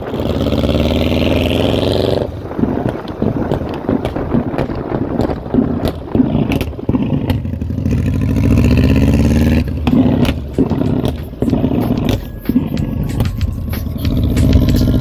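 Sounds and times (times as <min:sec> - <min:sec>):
exhaust cracks: 0:00.0 - 0:15.0
motorcycle engine revving: 0:00.0 - 0:15.0.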